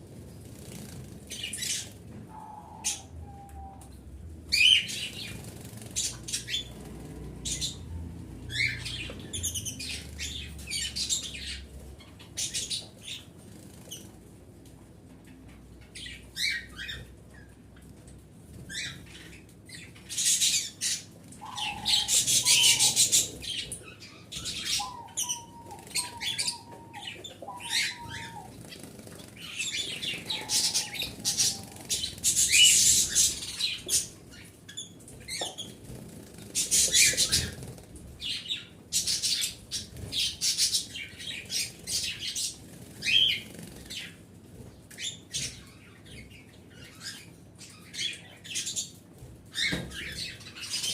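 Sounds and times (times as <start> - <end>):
birds chirping and squawking: 0.5 - 14.1, 15.2 - 50.9.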